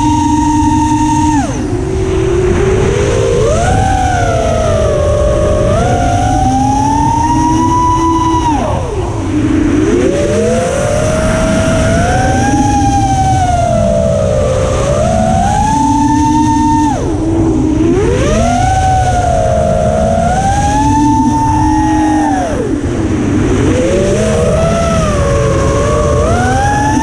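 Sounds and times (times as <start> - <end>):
drone motors whining: 0.0 - 27.0
wind rushing: 0.0 - 27.0.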